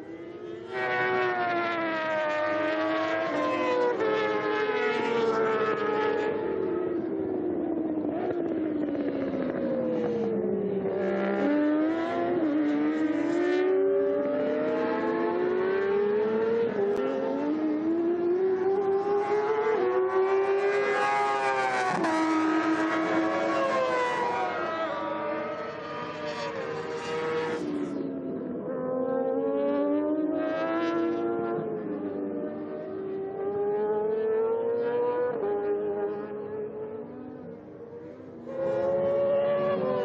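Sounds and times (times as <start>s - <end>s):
racing motorcycle engines revving: 0.1s - 40.0s.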